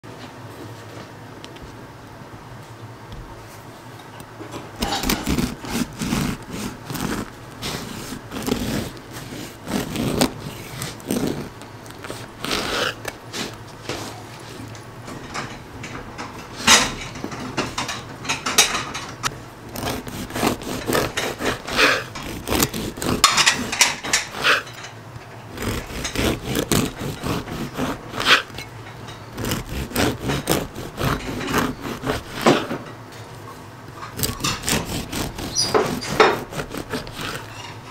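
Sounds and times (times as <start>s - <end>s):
scraping on wooden surface: 4.5s - 32.9s, 33.9s - 37.9s.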